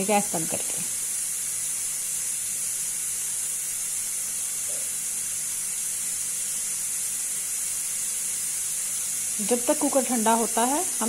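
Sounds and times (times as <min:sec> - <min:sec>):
pressure cooker hissing steam: 0:00.0 - 0:11.0.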